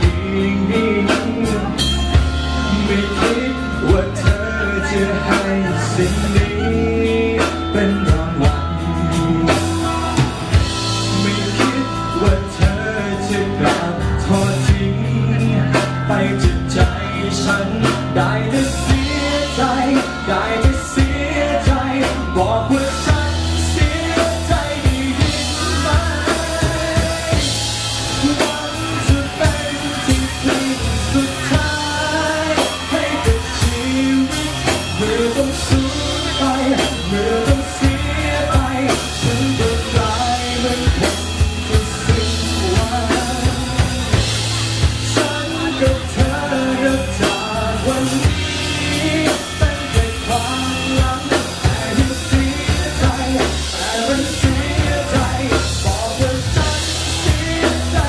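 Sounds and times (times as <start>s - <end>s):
drums: 0.0s - 58.0s
electric bass guitar: 0.0s - 58.0s
men singing: 0.0s - 58.0s.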